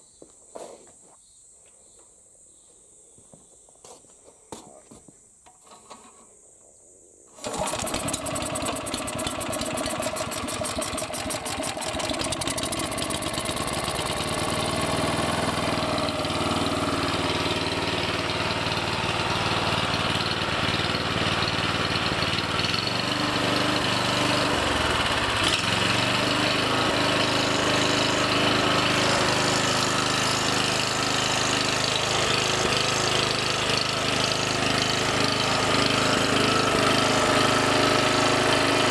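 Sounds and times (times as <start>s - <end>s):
small mower engine running: 7.4s - 38.9s.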